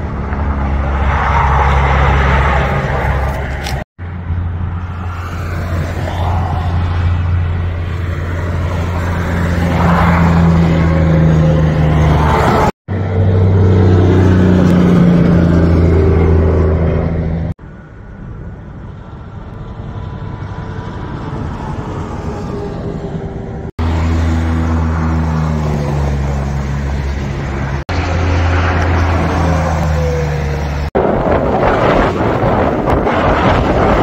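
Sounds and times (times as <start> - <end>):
trucks passing on highway: 0.0 - 34.0.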